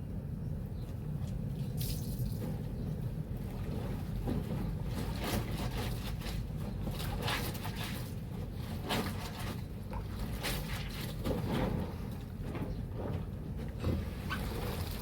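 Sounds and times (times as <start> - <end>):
water and laundry sloshing in a basin: 1.2 - 15.0.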